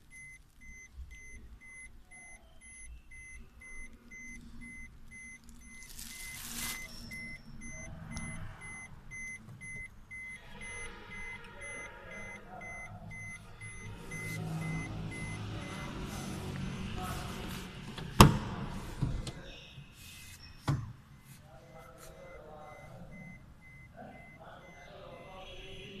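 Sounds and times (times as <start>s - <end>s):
high warning beeps: 0.0s - 26.0s.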